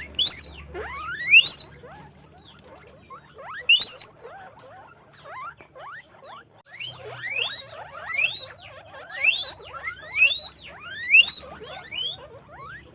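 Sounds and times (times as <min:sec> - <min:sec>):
guinea pigs squealing: 0:00.0 - 0:12.9.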